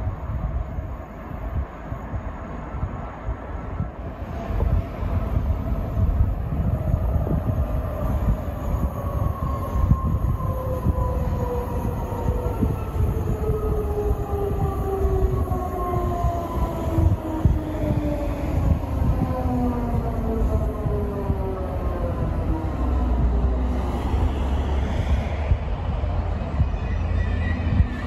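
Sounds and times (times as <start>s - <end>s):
train rumble: 0.0s - 28.0s.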